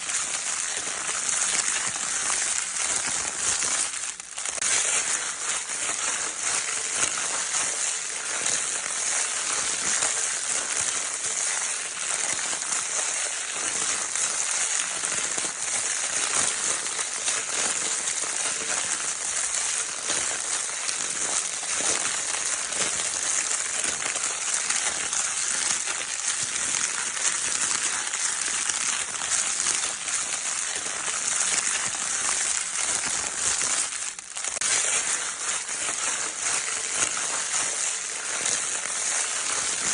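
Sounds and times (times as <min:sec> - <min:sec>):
crinkle paper crumpling: 0:00.0 - 0:39.9.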